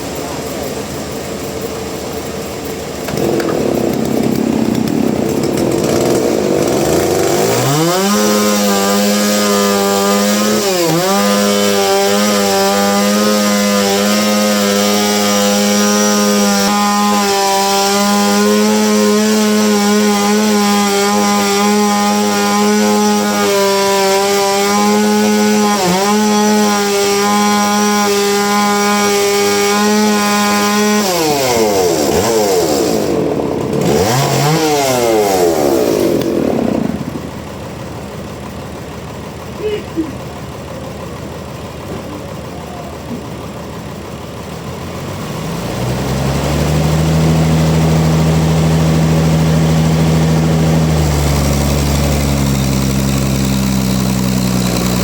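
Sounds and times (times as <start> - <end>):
chainsaw cutting log: 0.0 - 37.8, 45.0 - 55.0.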